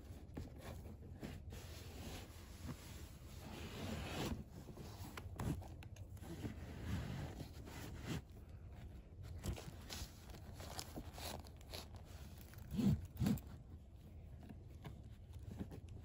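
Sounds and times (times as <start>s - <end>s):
pouches rustling in canvas bag: 0.1s - 16.0s.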